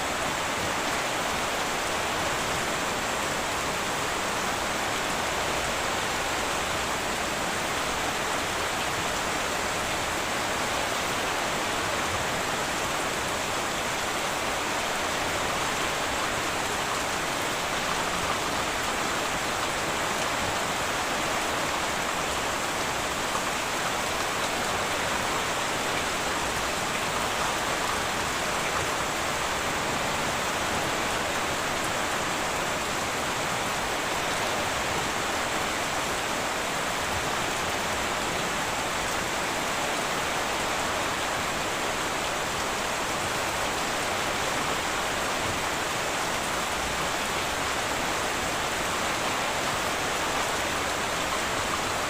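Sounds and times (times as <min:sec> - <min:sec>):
rain on a tin roof: 0:00.0 - 0:52.0.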